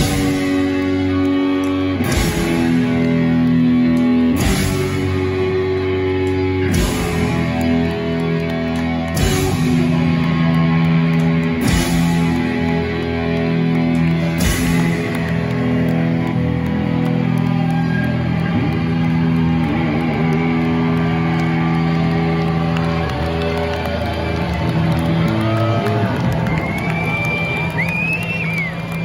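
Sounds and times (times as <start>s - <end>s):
distorted electric guitars droning: 0.0s - 29.0s
guitar feedback: 0.0s - 29.0s.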